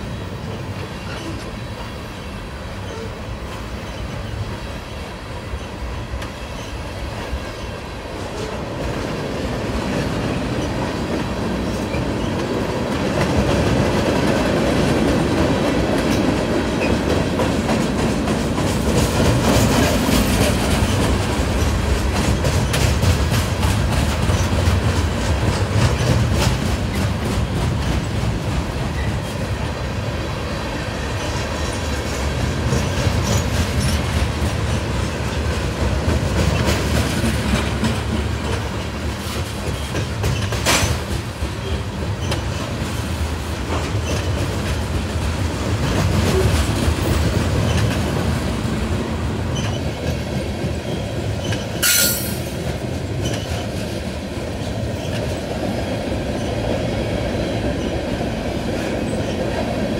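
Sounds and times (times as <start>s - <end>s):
freight train rumbling past: 0.0s - 59.9s
wheels clicking over rail joints: 6.1s - 29.8s, 31.1s - 56.8s.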